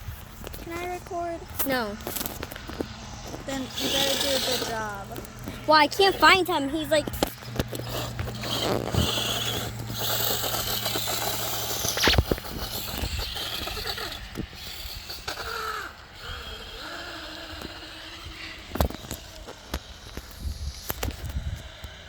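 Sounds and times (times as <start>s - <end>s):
toy car motor whirring: 0.0s - 22.0s.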